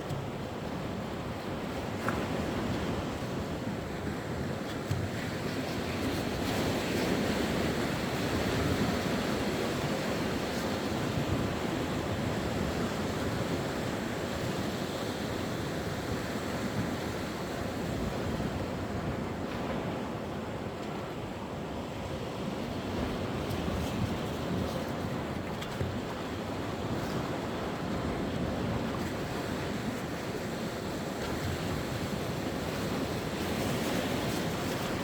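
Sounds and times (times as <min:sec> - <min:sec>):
sea waves washing on shore: 0:00.0 - 0:35.0.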